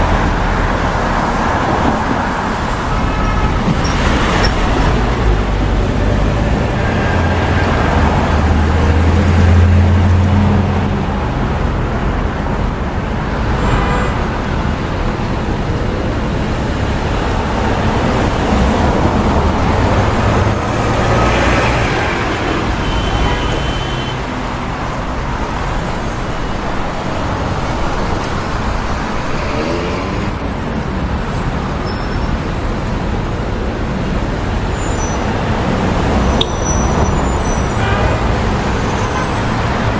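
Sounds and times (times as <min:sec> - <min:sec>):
cars and buses passing: 0:00.0 - 0:39.9.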